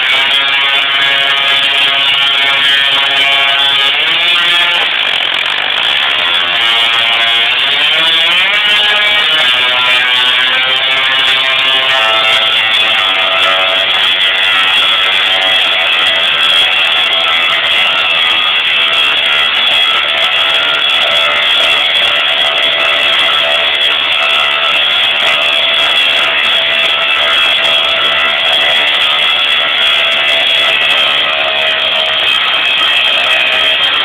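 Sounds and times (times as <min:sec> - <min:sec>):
tesla coil buzzing: 0:00.0 - 0:34.0.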